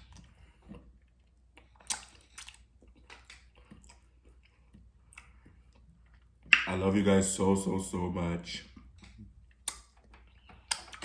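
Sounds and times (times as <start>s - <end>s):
person chewing: 0.0s - 6.7s, 8.7s - 11.0s.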